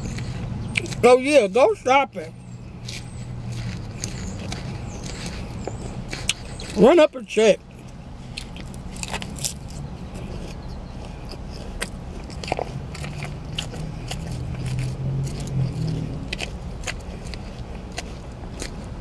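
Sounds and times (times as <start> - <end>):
chewing crunchy lettuce: 0.0 - 19.0
steady low hum: 0.0 - 19.0.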